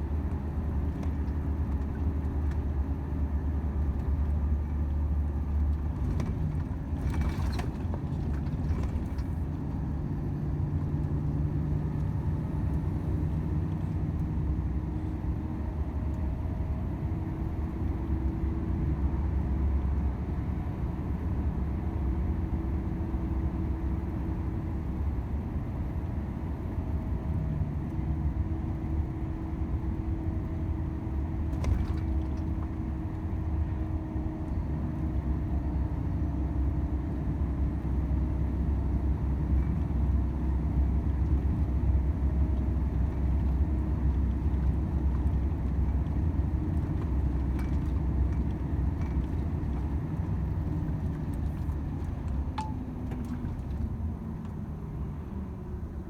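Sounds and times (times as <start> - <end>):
truck engine and road drone: 0.0 - 56.0.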